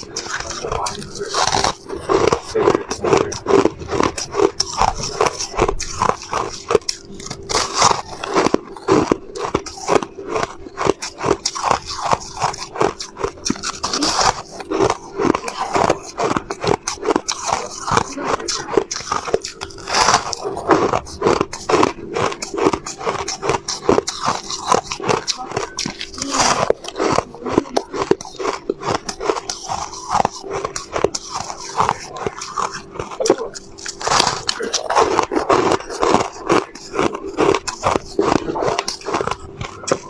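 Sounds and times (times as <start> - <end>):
ice crunching when bitten: 0.0 - 40.0.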